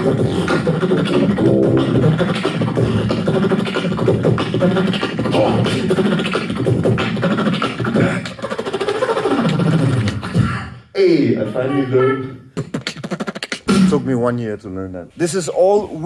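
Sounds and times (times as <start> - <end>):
people beatboxing: 0.0 - 10.9, 11.9 - 14.3.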